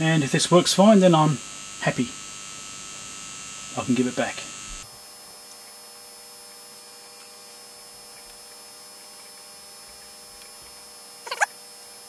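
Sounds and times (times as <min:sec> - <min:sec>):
electrical hum with faint hiss: 0:00.0 - 0:12.0.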